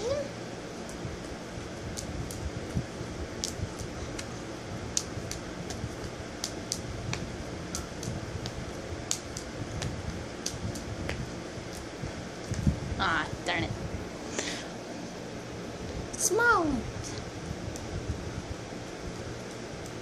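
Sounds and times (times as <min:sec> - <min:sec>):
fan humming: 0:00.0 - 0:20.0.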